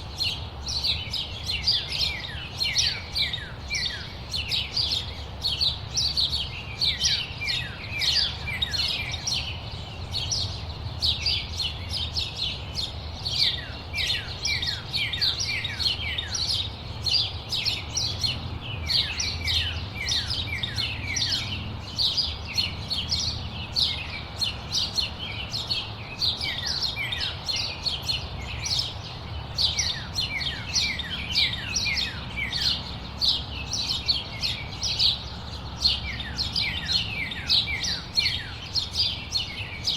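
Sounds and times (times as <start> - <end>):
small birds chirping in chorus: 0.0 - 39.9.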